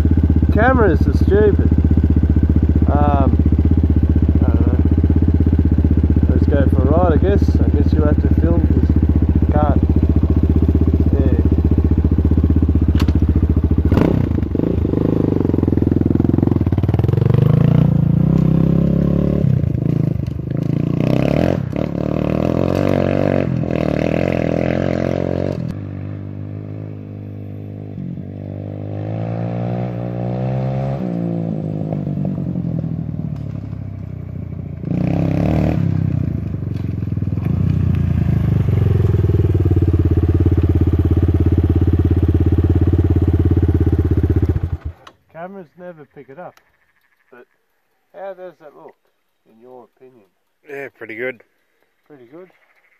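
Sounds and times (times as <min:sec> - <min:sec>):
dirt bike engine revving: 0:00.0 - 0:45.2.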